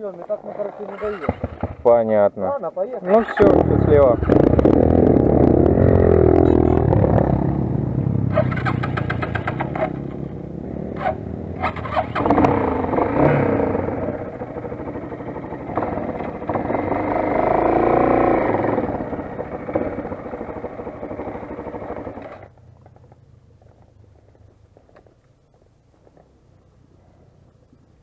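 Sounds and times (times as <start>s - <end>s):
motorcycle engine revving: 0.5s - 2.2s, 3.1s - 23.9s.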